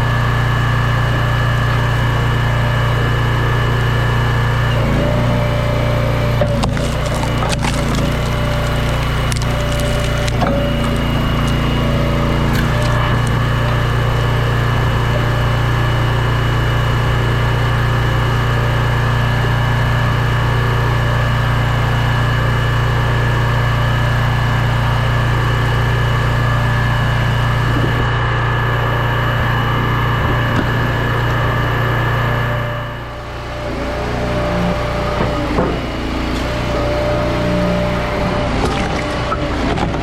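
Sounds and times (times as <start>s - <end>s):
small gas engine running: 0.0s - 40.0s.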